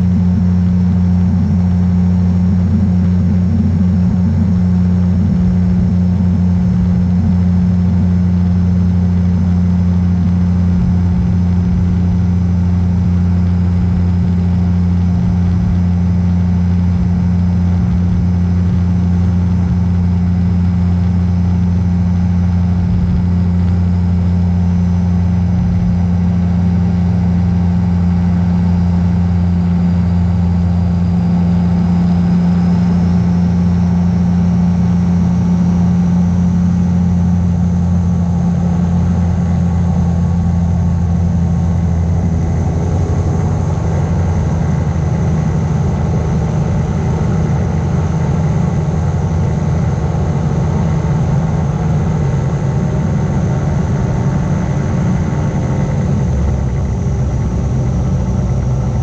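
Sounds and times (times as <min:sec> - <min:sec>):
light aircraft engine and propeller drone: 0:00.0 - 0:59.0.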